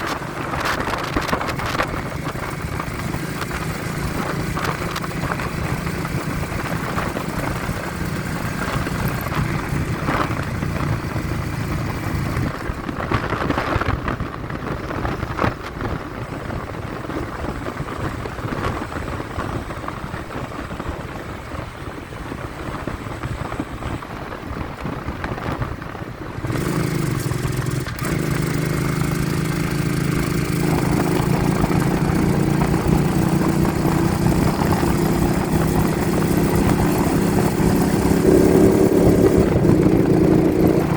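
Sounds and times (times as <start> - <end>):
vehicle engine running: 0.0 - 40.9
wind on microphone: 0.0 - 40.9.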